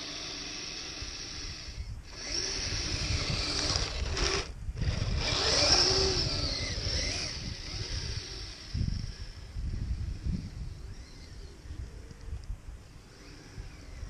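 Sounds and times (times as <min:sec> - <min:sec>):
electric motor and gearbox whining: 0:00.0 - 0:11.7, 0:13.0 - 0:14.0.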